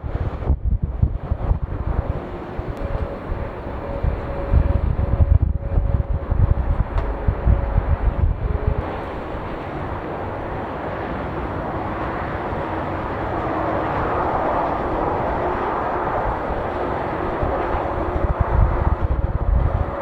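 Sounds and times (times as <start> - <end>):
jet engines roaring past: 0.0 - 20.0
wind buffeting microphone: 0.0 - 20.0.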